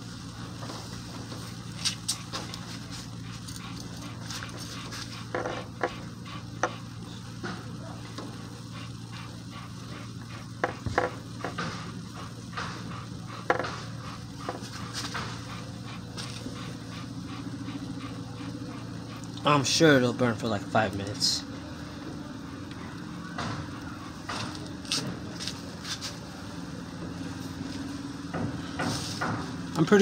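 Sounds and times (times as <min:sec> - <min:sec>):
fire crackling and popping: 0:00.0 - 0:19.6, 0:20.2 - 0:29.8
steady low hum: 0:00.0 - 0:30.0.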